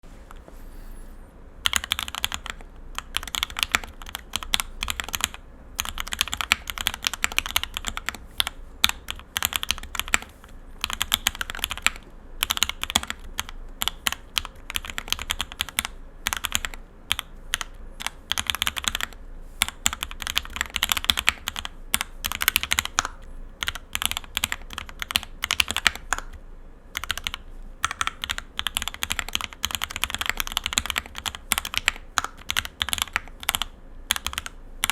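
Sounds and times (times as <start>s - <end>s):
mechanical keyboard typing: 1.6s - 34.9s.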